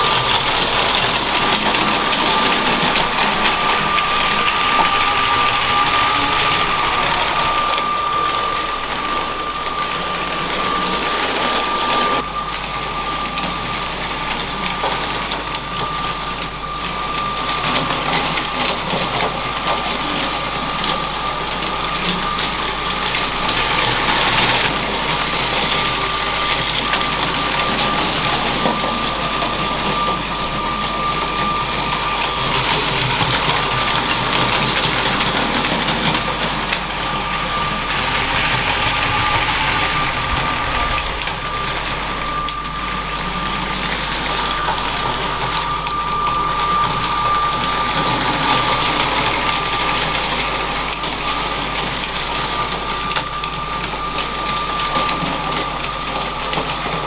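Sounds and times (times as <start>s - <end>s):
wheels rattling and clicking on rails: 0.0s - 12.6s, 13.2s - 57.0s
toy train motor whine: 0.0s - 57.0s.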